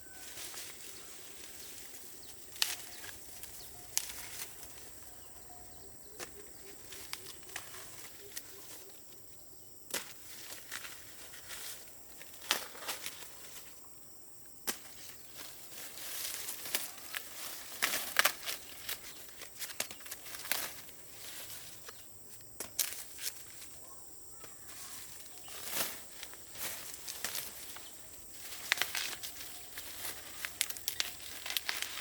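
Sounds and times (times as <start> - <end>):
rustling with snaps and crackles: 0.3 - 5.3, 6.2 - 9.2, 9.9 - 13.8, 14.7 - 32.0.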